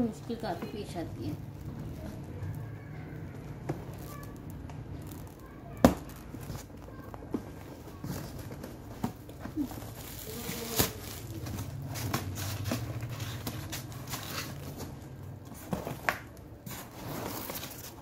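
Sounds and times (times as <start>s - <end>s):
plastic film crinkling: 0.0s - 18.0s.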